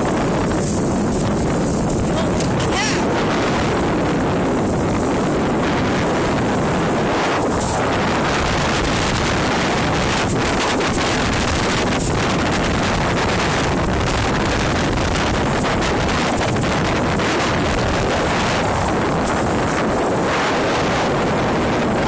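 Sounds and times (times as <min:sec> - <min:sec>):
water rushing along boat hull: 0:00.0 - 0:22.0
water splashes: 0:00.0 - 0:22.0
wind buffeting microphone: 0:00.0 - 0:22.0.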